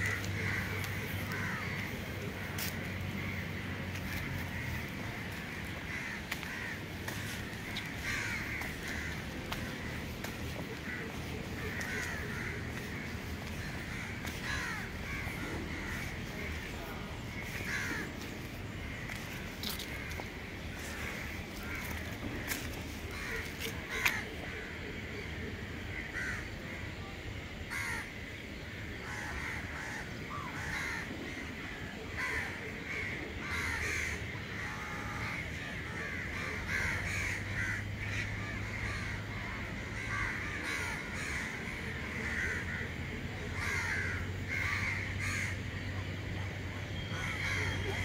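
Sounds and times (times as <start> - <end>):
crows cawing: 0.0 - 25.0, 25.9 - 26.6, 27.6 - 28.4, 29.0 - 45.9, 46.9 - 48.0
steady low hum: 0.0 - 48.0.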